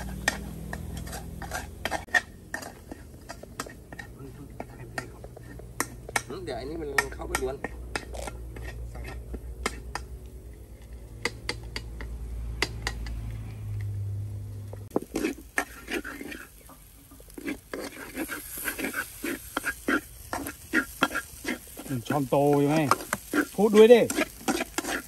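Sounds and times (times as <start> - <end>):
metal spatula scraping frying pan: 0.0 - 13.4, 14.9 - 25.0
food sizzling: 0.0 - 25.0.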